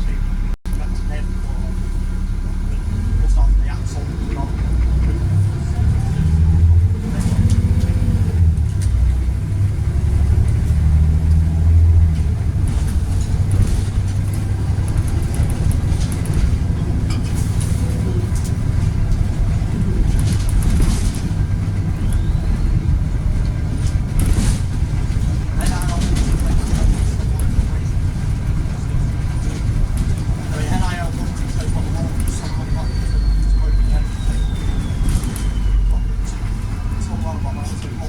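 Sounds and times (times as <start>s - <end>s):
bus engine drone: 0.0s - 38.0s
rattles and clicks: 4.3s - 38.0s.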